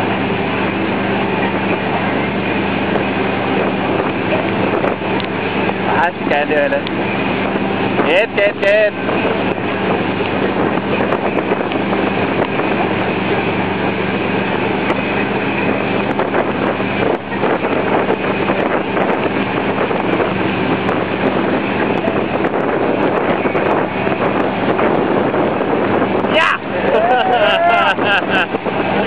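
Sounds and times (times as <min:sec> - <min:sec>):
boat engine running: 0:00.0 - 0:29.0
rushing white water: 0:00.0 - 0:29.0
wind buffeting microphone: 0:00.0 - 0:29.0.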